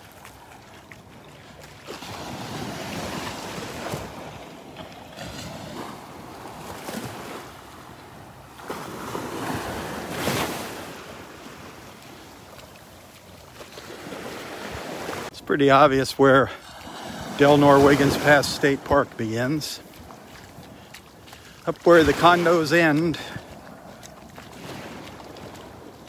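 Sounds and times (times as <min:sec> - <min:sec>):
small waves washing on sand: 0:00.0 - 0:26.0.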